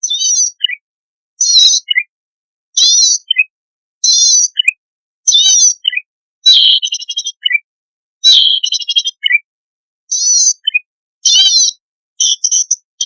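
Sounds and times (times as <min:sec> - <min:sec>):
bird song buzzy notes and chirps: 0:00.0 - 0:00.8, 0:01.4 - 0:02.1, 0:02.8 - 0:09.4, 0:10.1 - 0:13.0.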